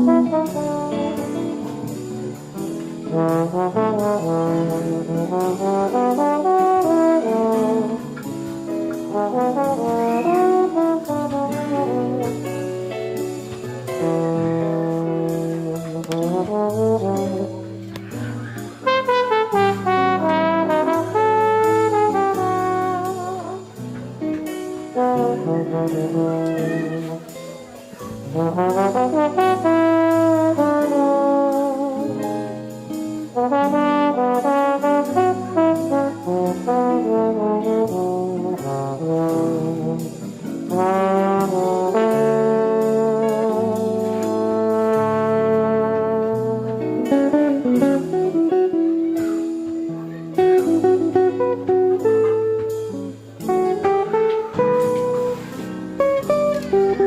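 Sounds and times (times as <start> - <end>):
instrumental background music: 0.0 - 57.0.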